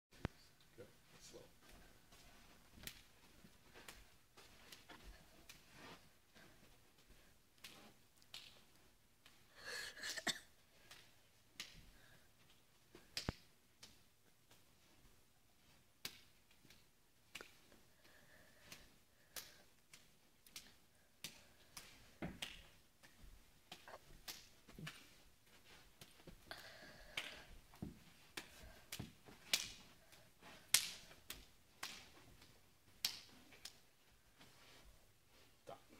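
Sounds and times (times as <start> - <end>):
hands slapping forearms: 1.6 - 35.5.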